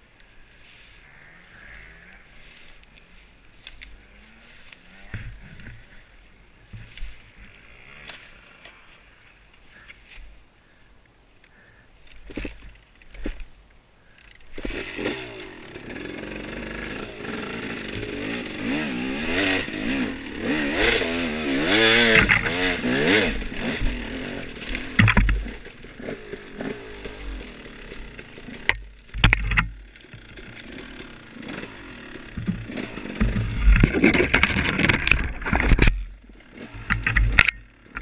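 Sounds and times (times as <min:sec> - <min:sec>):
dirt bike engine revving: 0:01.2 - 0:06.1, 0:07.2 - 0:09.2, 0:14.5 - 0:38.0.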